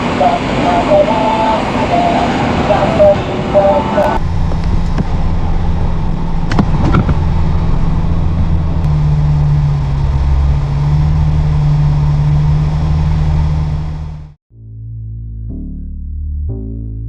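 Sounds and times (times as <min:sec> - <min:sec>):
car engine droning on the move: 0:00.0 - 0:14.4.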